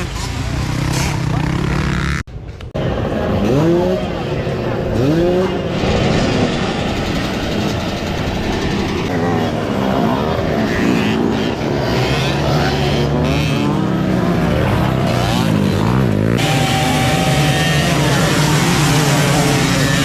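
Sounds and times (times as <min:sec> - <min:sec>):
dirt bike engines racing: 0:00.0 - 0:20.0.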